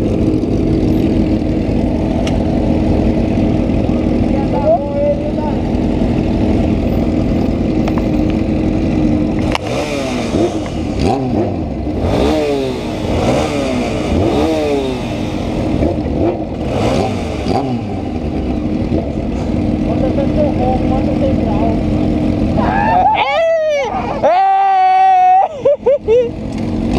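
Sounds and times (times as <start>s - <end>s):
motorcycle engine revving: 0.0s - 22.8s, 26.3s - 26.9s.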